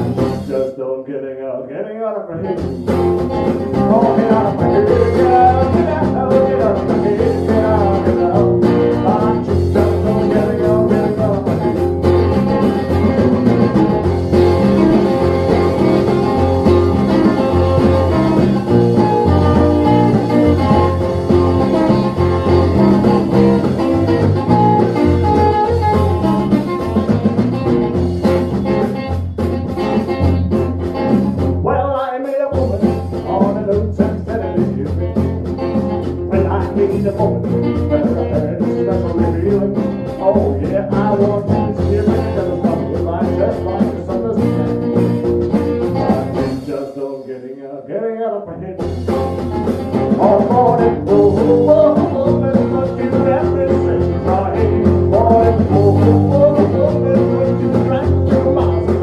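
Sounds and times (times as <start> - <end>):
electric bass: 0.0 - 0.8, 2.3 - 46.9, 48.5 - 59.0
drums: 0.0 - 1.3, 2.3 - 59.0
man singing: 0.0 - 27.1, 31.6 - 59.0
strummed acoustic guitar: 2.4 - 47.1, 48.6 - 59.0.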